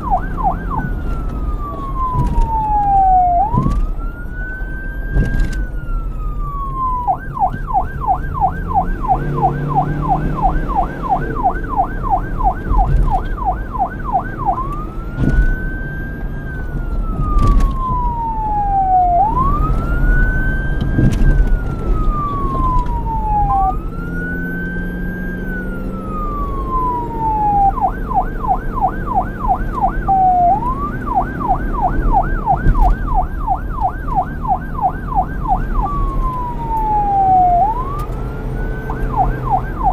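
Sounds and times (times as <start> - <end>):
police siren wail and yelp: 0.0 - 39.9.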